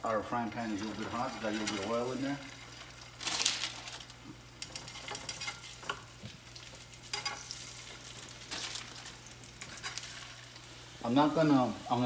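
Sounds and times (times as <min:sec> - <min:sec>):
sausage sizzling in a frying pan: 0:00.0 - 0:12.0.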